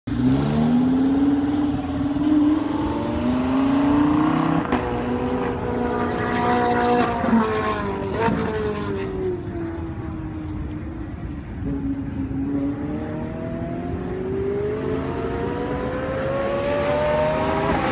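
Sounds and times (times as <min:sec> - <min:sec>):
sports car engine revving: 0:00.1 - 0:10.6, 0:11.6 - 0:17.9.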